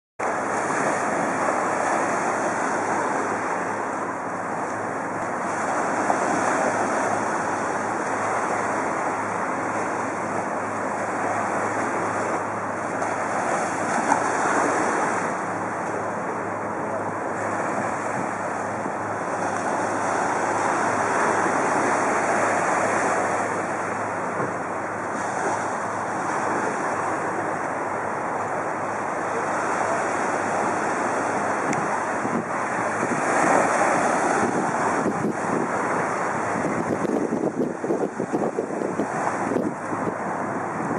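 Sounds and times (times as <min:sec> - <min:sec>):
waves washing against rocks: 0:00.2 - 0:40.9
wind buffeting microphone: 0:00.2 - 0:40.9.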